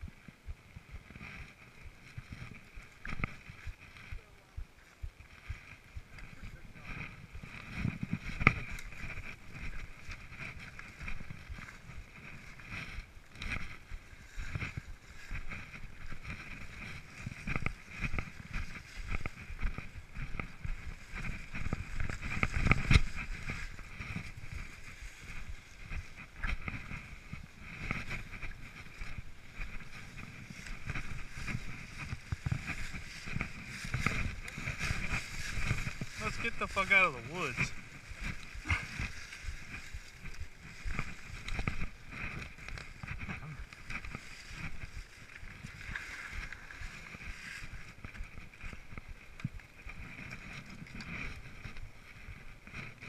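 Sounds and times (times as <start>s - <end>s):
tyre and wind rush: 0.0s - 53.0s
bike rattling over bumps: 0.1s - 4.3s, 5.0s - 53.0s.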